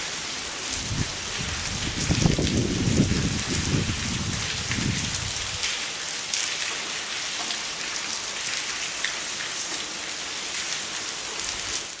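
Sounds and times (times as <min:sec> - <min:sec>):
rain and hail hissing: 0:00.0 - 0:12.0.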